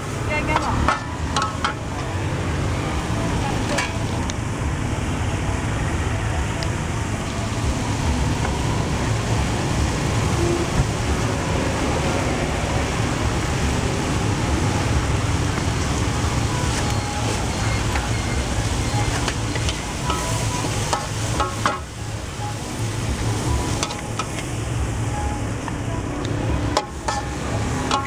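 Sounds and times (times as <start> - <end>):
wok stir-fry sizzling: 0.0 - 28.0.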